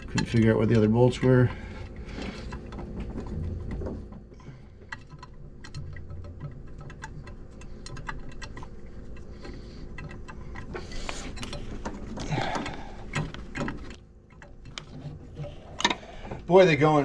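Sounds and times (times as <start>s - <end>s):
metallic clicks and rattles: 0.0s - 17.0s.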